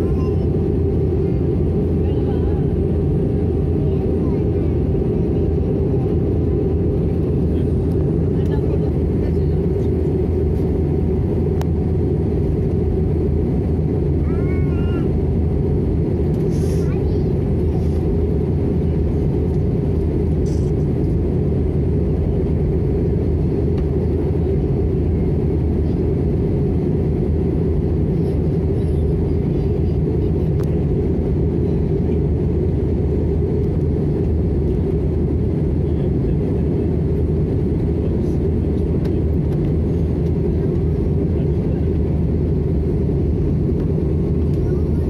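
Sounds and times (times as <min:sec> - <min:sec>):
airplane cabin engine drone: 0:00.0 - 0:45.0.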